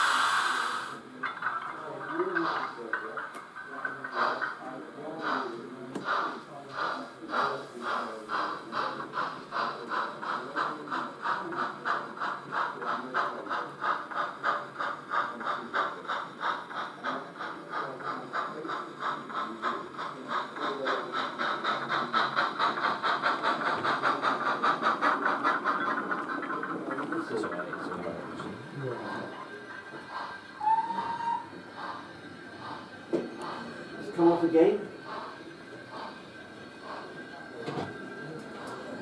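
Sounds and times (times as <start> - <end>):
steam locomotive exhaust chuffs: 0.0 - 39.0.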